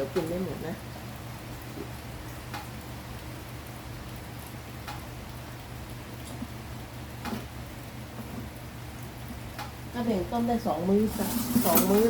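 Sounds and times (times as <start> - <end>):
sharp drip-like ticks: 0.0 - 9.8
steady rain falling: 0.0 - 12.0.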